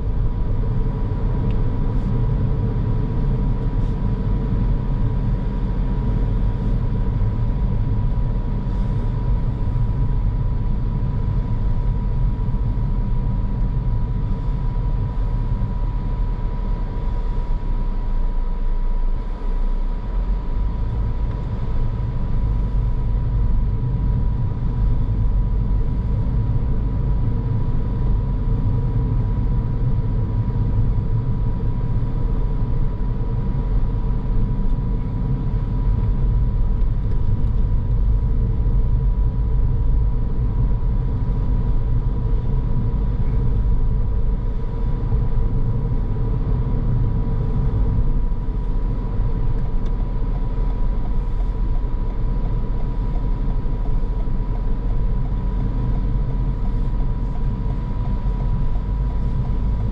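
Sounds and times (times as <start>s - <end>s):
car tyre and engine rumble: 0.0s - 59.9s
thin steady whine: 0.0s - 59.9s.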